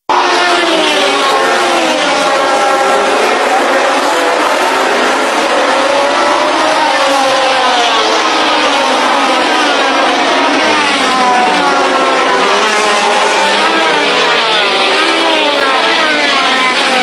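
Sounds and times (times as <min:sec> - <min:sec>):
racing car engines at high revs: 0:00.0 - 0:17.0.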